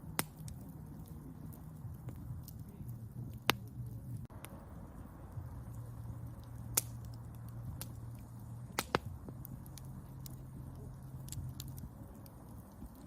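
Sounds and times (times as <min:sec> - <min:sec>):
campfire pops: 0:00.0 - 0:13.0
fire rumble: 0:00.0 - 0:13.0.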